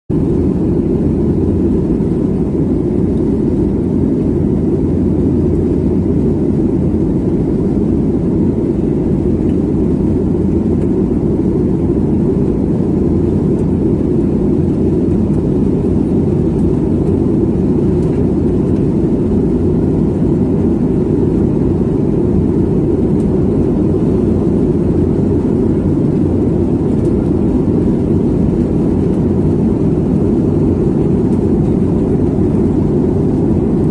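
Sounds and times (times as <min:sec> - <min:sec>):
airliner cabin rumble: 0:00.1 - 0:33.9.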